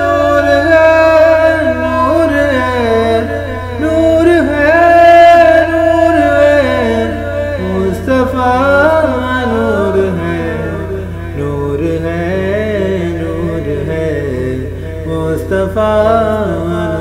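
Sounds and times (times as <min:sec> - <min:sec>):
low hum: 0:00.0 - 0:17.0
man chanting: 0:00.0 - 0:17.0.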